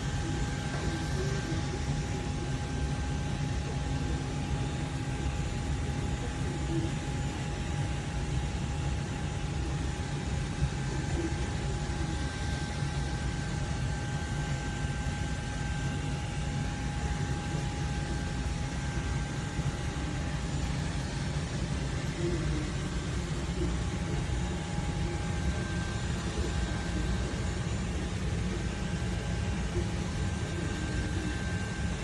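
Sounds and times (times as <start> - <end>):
faint constant whine: 0.0 - 32.0
machine hum: 0.0 - 32.0.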